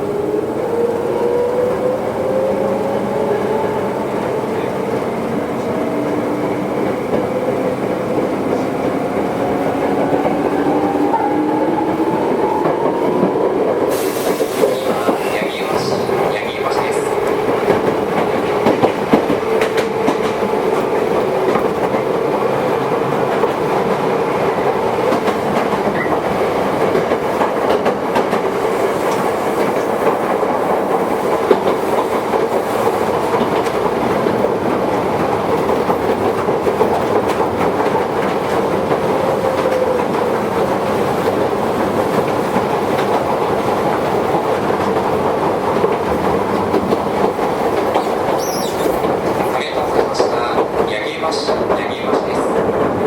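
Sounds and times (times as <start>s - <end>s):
train wheels roaring on rail: 0.0s - 53.0s
wheels clacking over rail joints: 4.3s - 53.0s.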